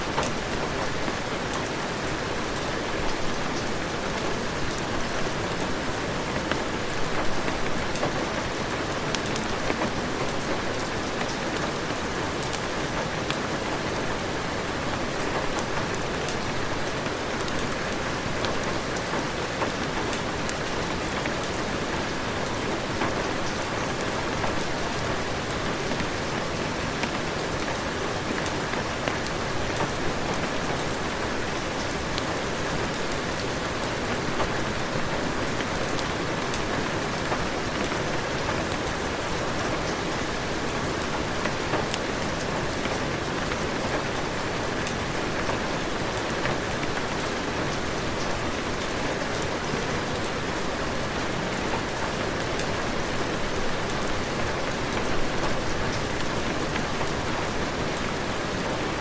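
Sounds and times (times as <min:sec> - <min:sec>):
heavy rain falling: 0:00.0 - 0:59.0
raindrops ticking on surfaces: 0:00.0 - 0:59.0.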